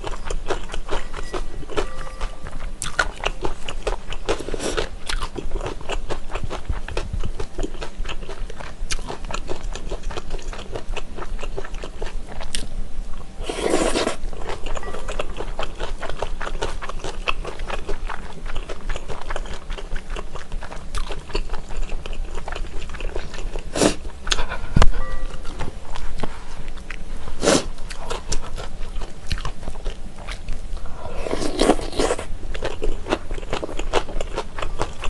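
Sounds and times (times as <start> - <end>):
chewing with mouth clicks: 0.0 - 12.7, 13.6 - 35.0.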